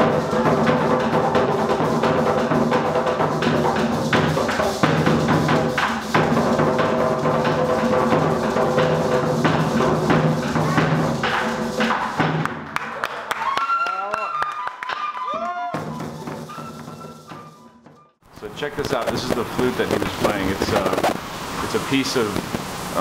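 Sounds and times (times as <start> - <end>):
fast hand drumming: 0.0 - 12.7, 15.7 - 17.6, 18.5 - 22.5.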